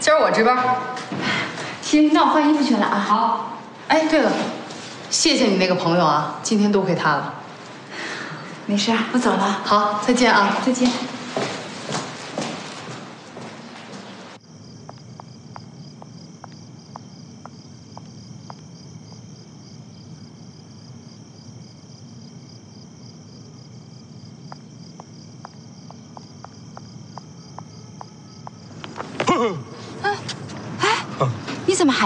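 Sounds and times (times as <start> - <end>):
crickets chirring: 1.6 - 32.0.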